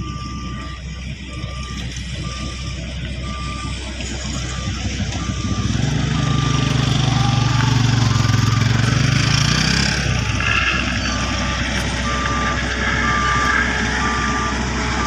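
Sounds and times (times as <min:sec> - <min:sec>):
diesel engine drone: 0:00.0 - 0:15.0
reversing alarm beeping: 0:00.0 - 0:15.0.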